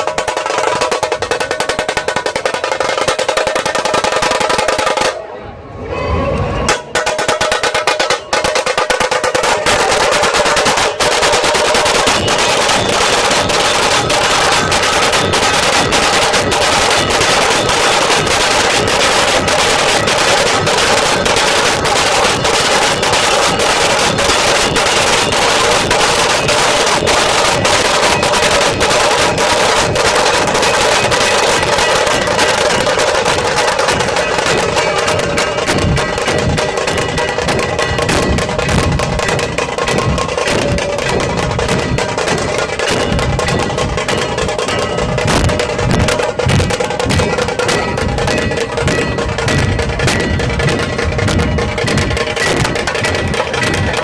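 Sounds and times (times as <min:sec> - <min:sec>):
dhol drums beating: 0:00.0 - 0:05.2, 0:06.6 - 0:54.0
sharp tasha drum strokes: 0:00.0 - 0:05.2, 0:06.3 - 0:54.0.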